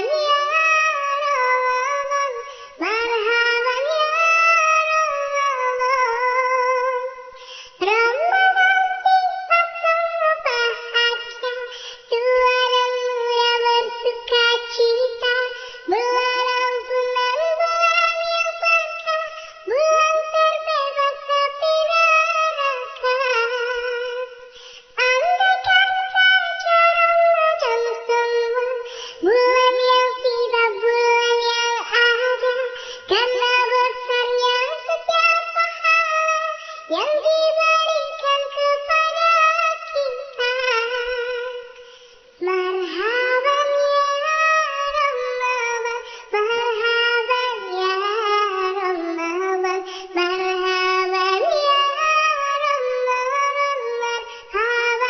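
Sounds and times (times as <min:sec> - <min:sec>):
high synthetic voice singing: 0:00.0 - 0:41.8, 0:42.4 - 0:55.0.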